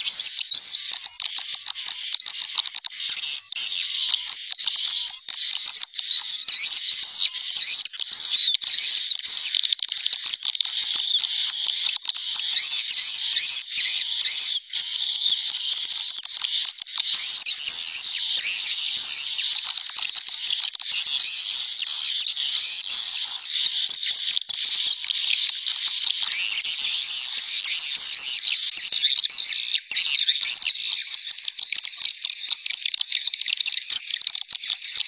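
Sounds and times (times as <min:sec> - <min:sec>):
swiftlets twittering chirps: 0:00.0 - 0:35.0.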